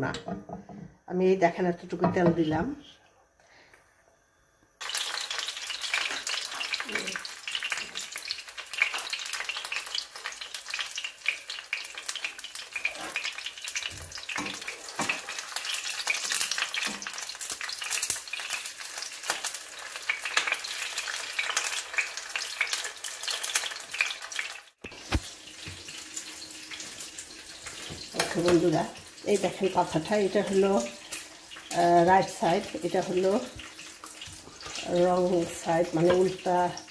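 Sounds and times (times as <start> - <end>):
leaf sizzling in oil: 4.8 - 36.9.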